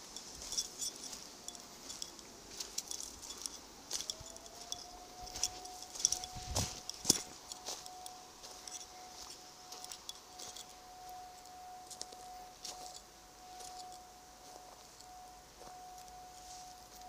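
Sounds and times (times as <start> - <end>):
faint steady high tone: 0.0 - 17.0
footsteps on dry leaves: 0.0 - 17.0.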